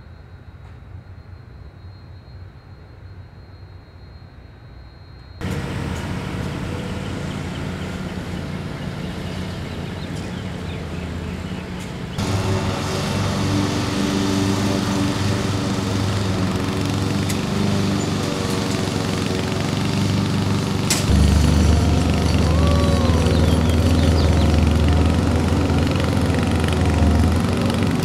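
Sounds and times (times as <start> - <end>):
small engine humming: 5.4 - 28.0.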